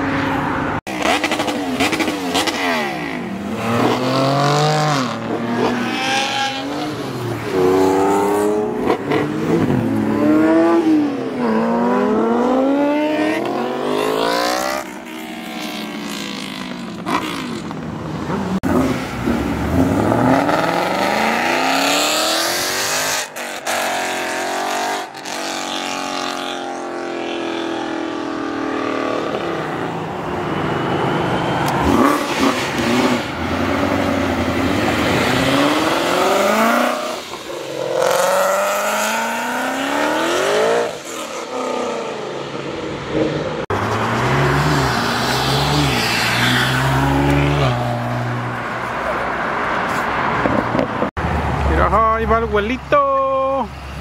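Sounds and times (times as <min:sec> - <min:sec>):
car engines revving: 0:00.0 - 0:52.9.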